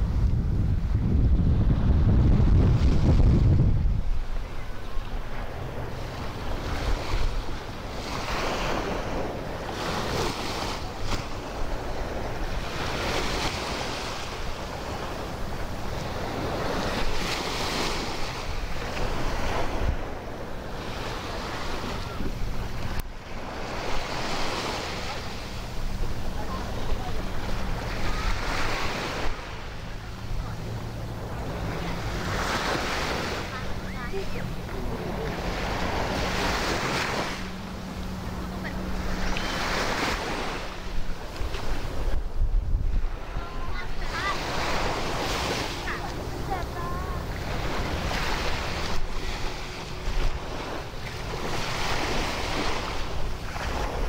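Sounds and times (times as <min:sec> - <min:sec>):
waves washing onto beach: 0:00.0 - 0:54.0
wind gusts on microphone: 0:00.0 - 0:54.0.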